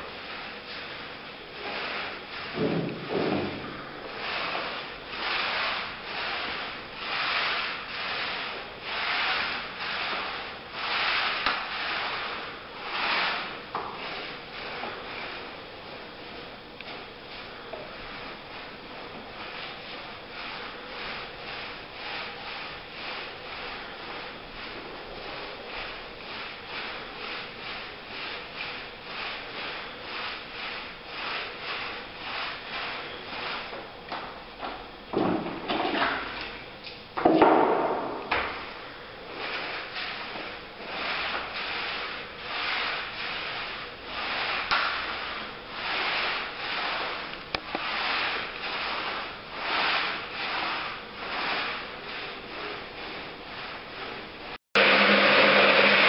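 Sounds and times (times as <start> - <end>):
paint roller rubbing on floor: 0.0 - 36.7, 37.7 - 56.0.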